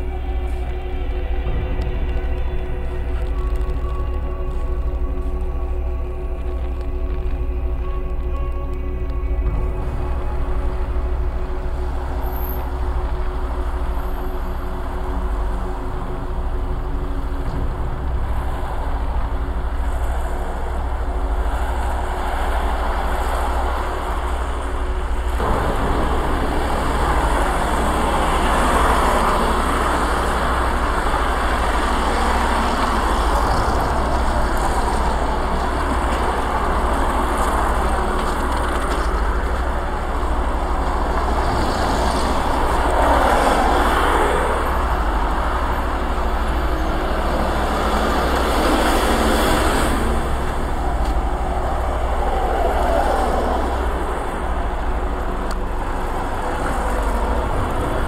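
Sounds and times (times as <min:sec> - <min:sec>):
constant low hum: 0:00.0 - 0:58.0
rumbling noise drone: 0:00.0 - 0:58.0.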